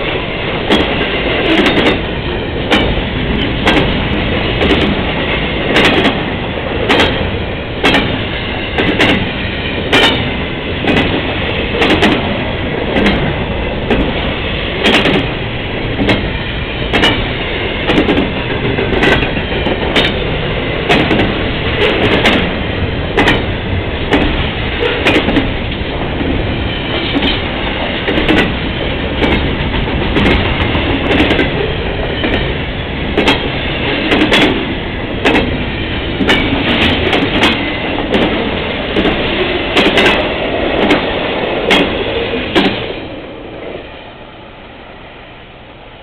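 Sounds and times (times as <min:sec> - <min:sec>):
wheels clacking on track: 0:00.0 - 0:43.8
freight train rumbling past: 0:00.0 - 0:46.0.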